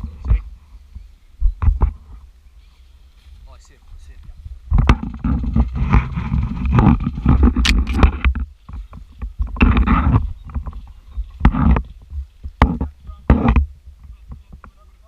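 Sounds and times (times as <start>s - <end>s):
wind rumble on microphone: 0.0s - 15.0s
rustling and handling: 1.7s - 15.0s.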